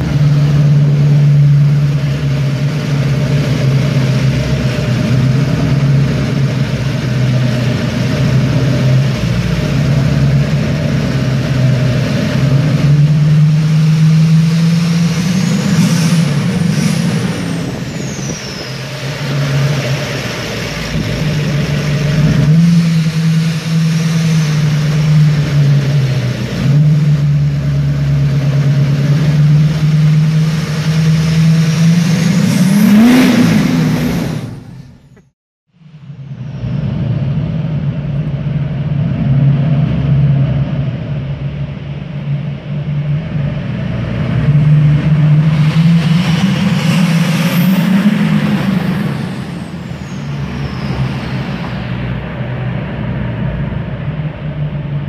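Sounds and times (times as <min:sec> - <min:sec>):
diesel engine revving: 0:00.0 - 0:35.3, 0:36.2 - 0:55.0.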